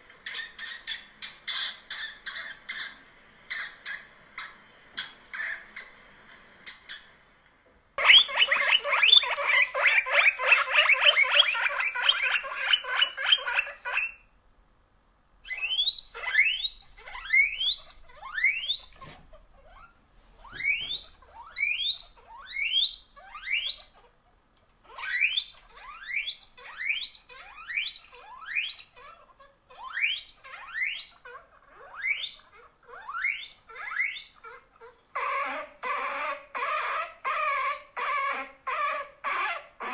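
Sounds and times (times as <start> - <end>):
guinea pig wheeking squeals: 0.2 - 5.9, 8.0 - 14.4, 15.4 - 39.9
guinea pig chattering squeaks: 0.2 - 6.0, 8.0 - 14.4, 15.4 - 24.2, 24.8 - 39.9.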